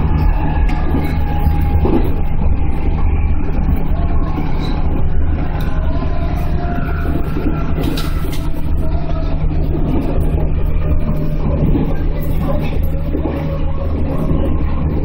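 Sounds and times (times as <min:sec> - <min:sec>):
faint whining tones: 0:00.0 - 0:15.0
train traction motors rumbling: 0:00.0 - 0:15.0.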